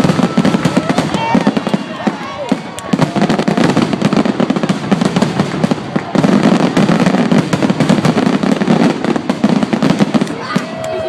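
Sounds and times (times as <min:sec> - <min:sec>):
fireworks bursts and crackle: 0:00.0 - 0:11.0.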